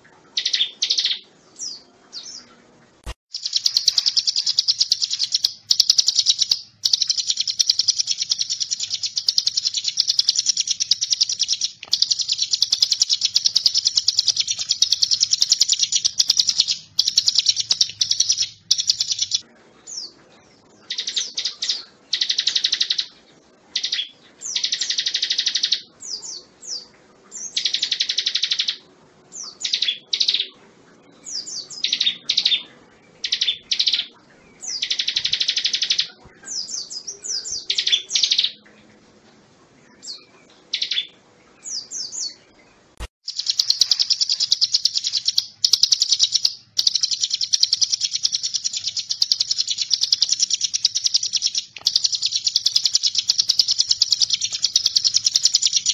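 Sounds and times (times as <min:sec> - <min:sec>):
bird singing trilled phrases: 0:00.0 - 0:02.6, 0:03.3 - 0:38.7, 0:39.8 - 0:55.9.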